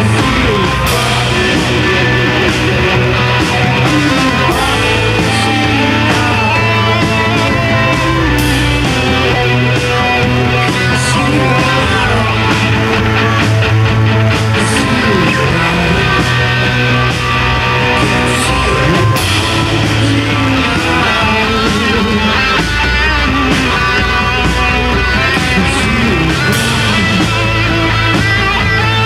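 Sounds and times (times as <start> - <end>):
psychedelic rock music: 0.0 - 29.0.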